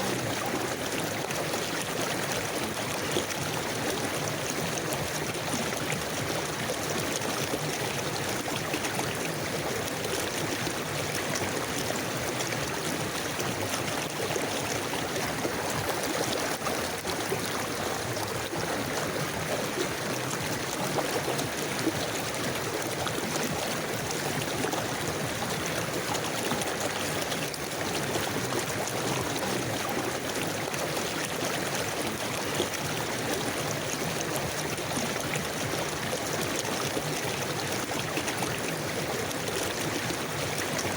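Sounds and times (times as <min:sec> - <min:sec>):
river water gurgling over stones: 0:00.0 - 0:40.9.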